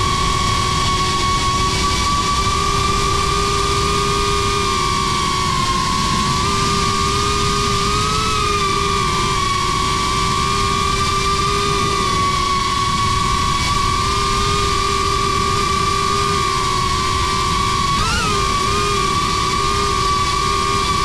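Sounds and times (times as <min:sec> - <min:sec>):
drone motors and propellers whining: 0:00.0 - 0:21.0.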